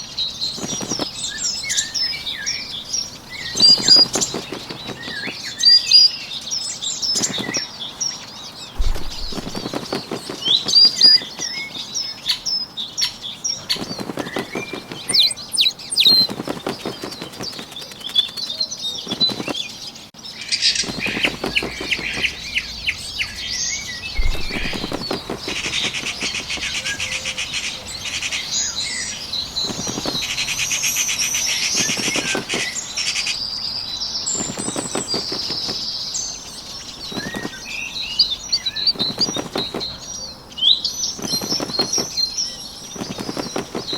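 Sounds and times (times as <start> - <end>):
high chirping birdsong: 0.0 - 43.9
bird wings flapping: 0.4 - 6.1, 7.0 - 8.2, 8.8 - 12.0, 13.0 - 19.9, 20.7 - 33.3, 34.3 - 40.3, 41.0 - 43.9.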